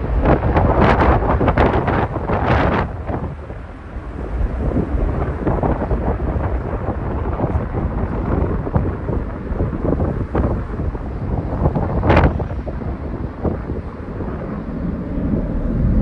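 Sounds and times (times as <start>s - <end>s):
jet engines rumbling overhead: 0.0s - 16.0s
wind buffeting microphone: 0.0s - 16.0s.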